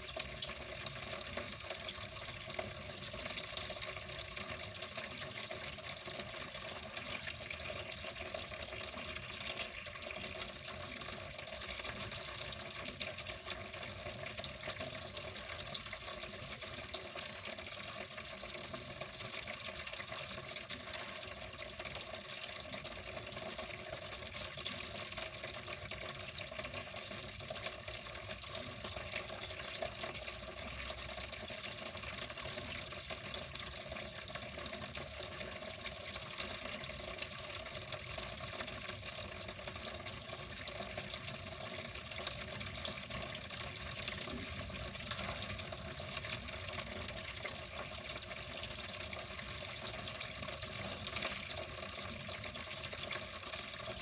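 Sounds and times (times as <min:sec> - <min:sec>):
water flowing and splashing: 0:00.0 - 0:54.0.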